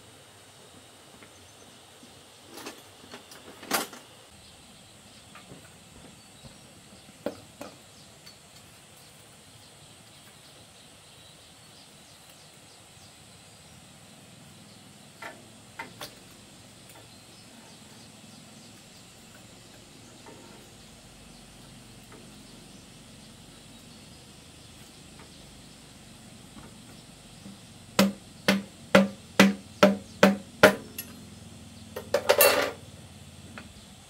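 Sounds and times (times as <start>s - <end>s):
faint high-pitched hiss: 0.0s - 34.0s.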